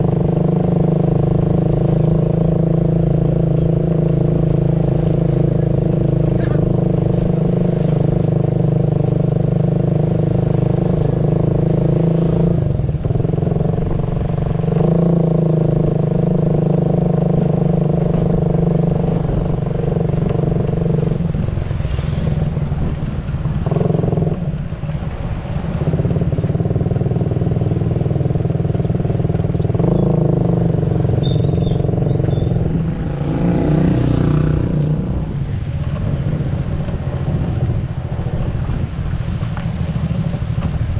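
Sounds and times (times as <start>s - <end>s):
motor vehicle engine revving: 0.0s - 40.9s.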